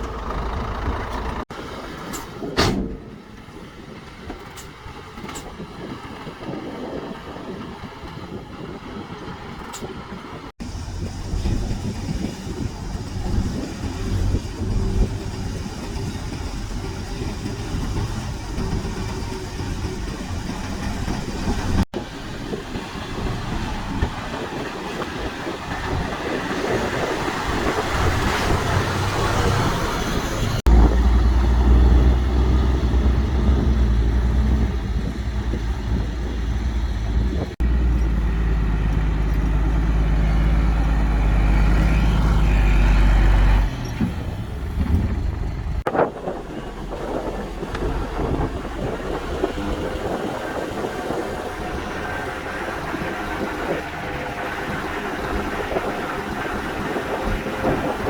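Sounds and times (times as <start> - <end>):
deep engine rumble: 0.0 - 58.0
diesel engines running: 0.0 - 58.0
machinery clanking: 10.6 - 58.0.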